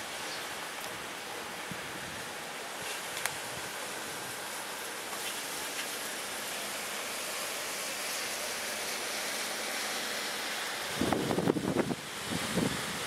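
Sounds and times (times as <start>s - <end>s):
rain on wet pavement: 0.0s - 13.0s.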